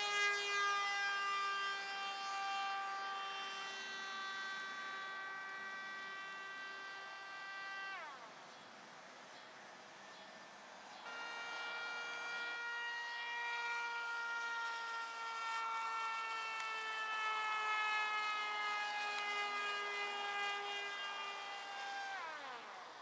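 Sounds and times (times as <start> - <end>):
model aircraft motor whining: 0.0 - 8.6, 11.0 - 23.0.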